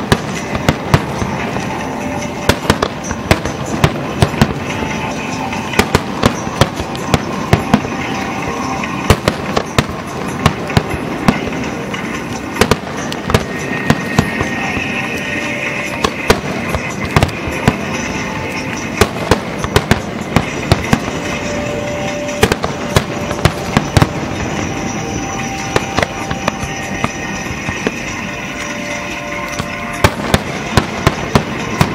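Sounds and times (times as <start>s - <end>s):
fireworks bangs: 0.0s - 31.9s.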